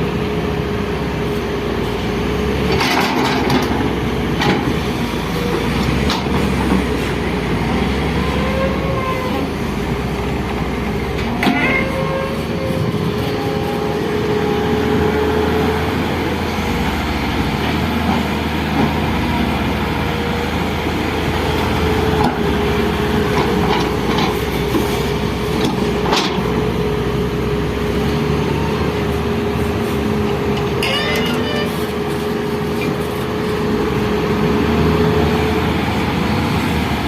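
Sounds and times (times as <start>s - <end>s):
excavator diesel engine rumbling: 0.0s - 37.0s.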